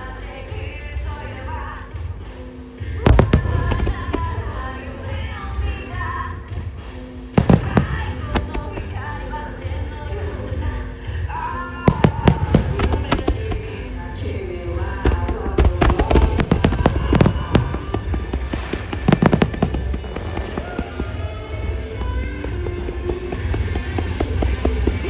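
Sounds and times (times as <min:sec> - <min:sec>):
music with vocals over loudspeakers: 0:00.0 - 0:25.0
fireworks bursting with sharp bangs: 0:02.9 - 0:25.0.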